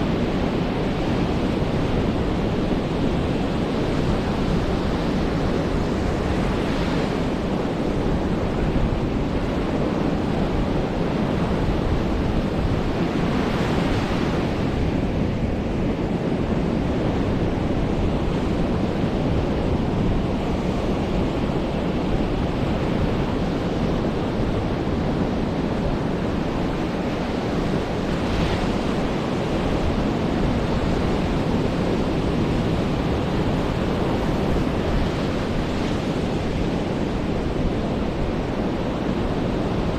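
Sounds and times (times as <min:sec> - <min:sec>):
ocean surf washing on beach: 0:00.0 - 0:39.9
wind buffeting microphone: 0:00.0 - 0:39.9.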